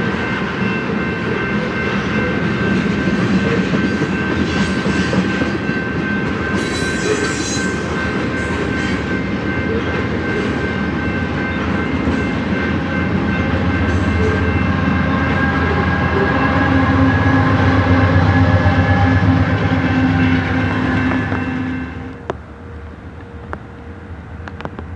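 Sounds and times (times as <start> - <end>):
freight train rumbling and rattling: 0.0 - 24.9.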